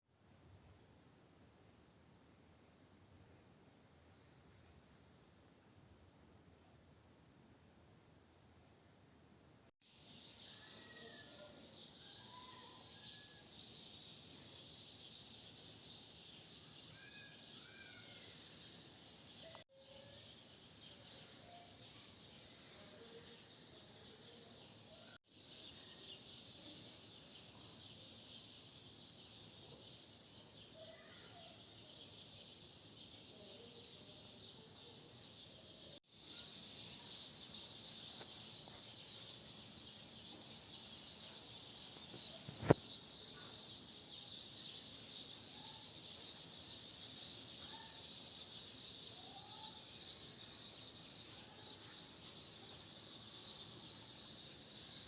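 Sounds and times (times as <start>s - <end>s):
bird chirps: 10.0s - 55.0s.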